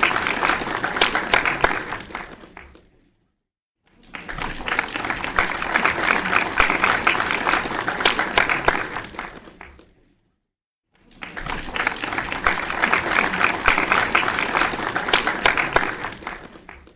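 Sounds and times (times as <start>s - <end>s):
crowd applauding: 0.0s - 3.0s, 4.0s - 10.0s, 11.0s - 16.9s.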